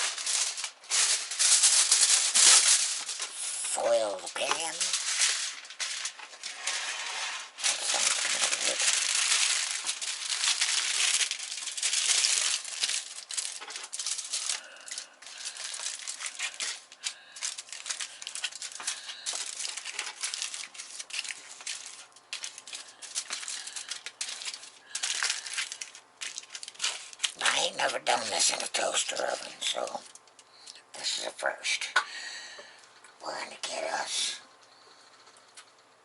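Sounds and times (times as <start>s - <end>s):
aluminium foil crinkling: 0.0s - 31.9s.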